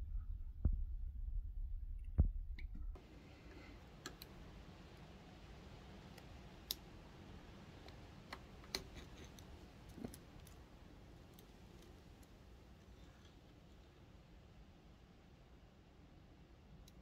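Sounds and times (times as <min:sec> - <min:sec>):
low room tone hum: 0:00.0 - 0:17.0.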